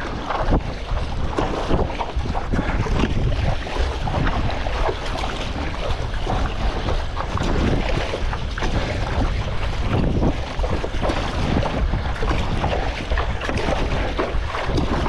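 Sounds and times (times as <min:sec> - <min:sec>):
water splashing and slapping: 0:00.0 - 0:15.0
wind buffeting microphone: 0:00.0 - 0:15.0.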